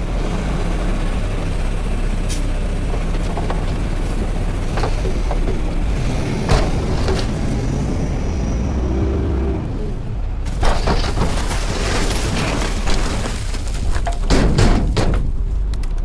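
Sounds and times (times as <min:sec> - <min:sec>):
garbage truck engine rumble: 0:00.0 - 0:16.0
metal clanks: 0:01.4 - 0:15.8.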